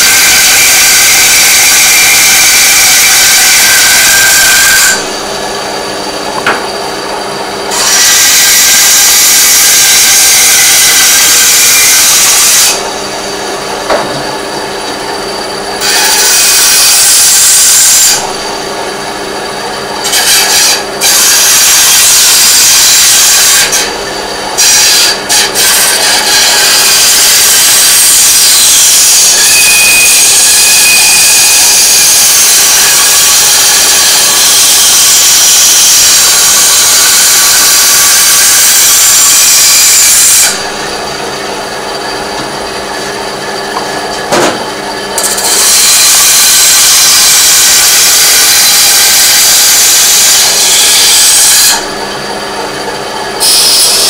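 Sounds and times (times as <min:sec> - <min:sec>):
power tool cutting metal: 0:00.0 - 0:54.0.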